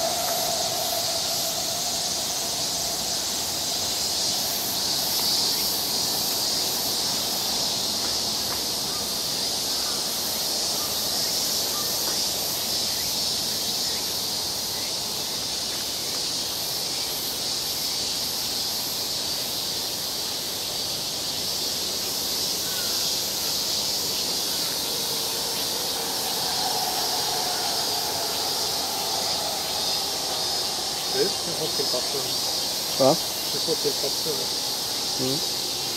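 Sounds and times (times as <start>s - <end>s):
cicada chorus drone: 0.0s - 35.9s.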